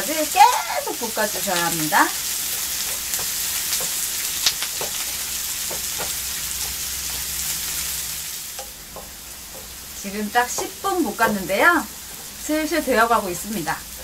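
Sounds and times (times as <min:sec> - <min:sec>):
onions sizzling in a frying pan: 0:00.0 - 0:14.0
wooden spoon scraping a pan: 0:00.2 - 0:14.0.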